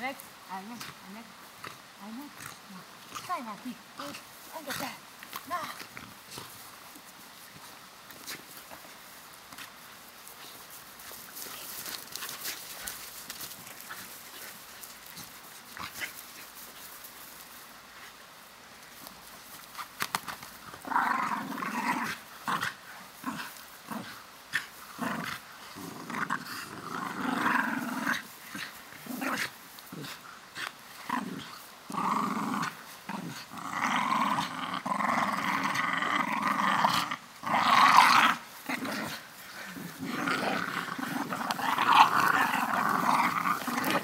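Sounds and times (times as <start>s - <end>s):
dogs play-growling: 0.8s - 8.9s, 10.4s - 17.2s, 18.8s - 44.0s.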